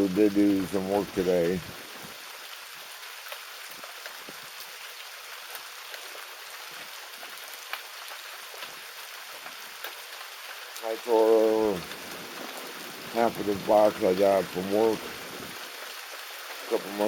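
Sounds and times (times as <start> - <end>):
rain hissing: 0.0 - 17.0
raindrops clicking close by: 0.0 - 17.0.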